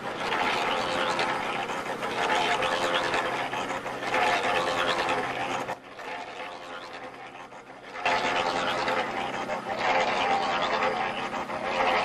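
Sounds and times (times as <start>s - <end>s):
cement mixer running: 0.0s - 12.0s.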